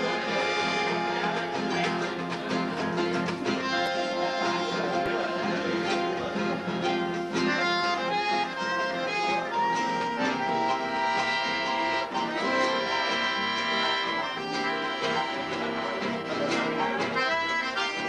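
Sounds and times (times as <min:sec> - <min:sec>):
bandoneon melody: 0:00.0 - 0:18.0
guitar strumming: 0:00.0 - 0:18.0.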